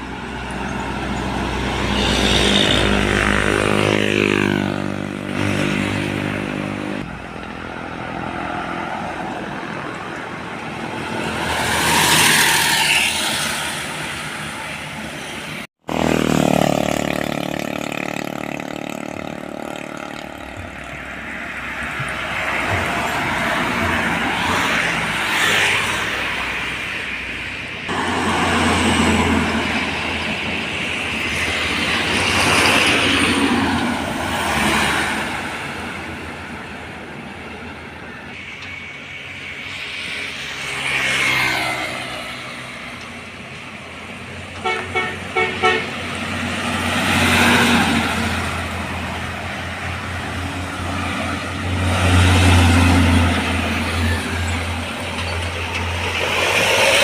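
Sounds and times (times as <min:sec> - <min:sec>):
heavy trucks and buses passing: 0:00.0 - 0:57.0.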